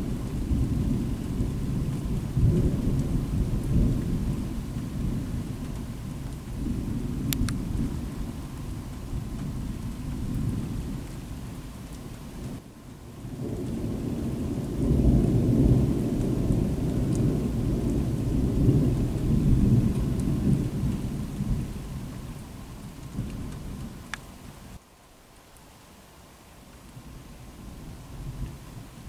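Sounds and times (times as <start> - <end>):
thunder rumbling: 0.0 - 12.6, 13.2 - 24.2.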